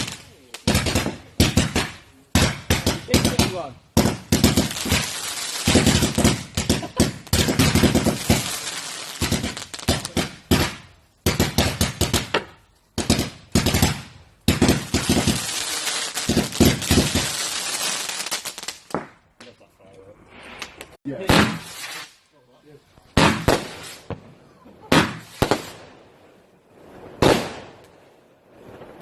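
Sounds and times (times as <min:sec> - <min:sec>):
fireworks bangs and crackles: 0:00.0 - 0:19.2, 0:20.4 - 0:22.2, 0:23.0 - 0:29.0.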